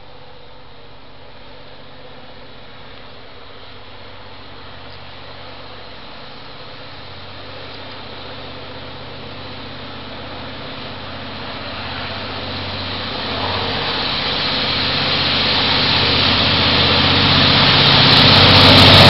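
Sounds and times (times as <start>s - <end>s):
diesel locomotive engine: 0.0s - 19.0s
train rumbling: 0.0s - 19.0s.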